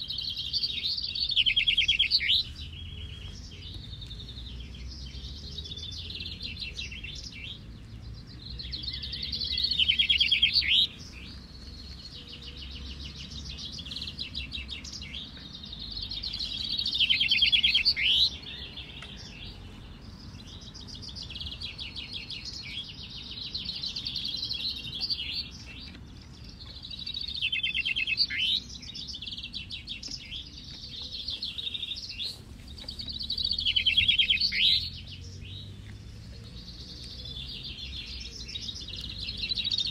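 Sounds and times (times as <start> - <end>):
chaffinches singing: 0.0 - 39.9.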